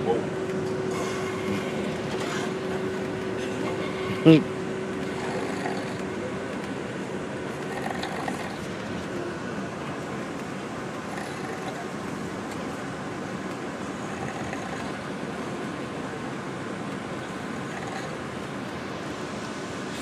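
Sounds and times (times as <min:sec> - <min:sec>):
bus running noise: 0:00.0 - 0:20.0.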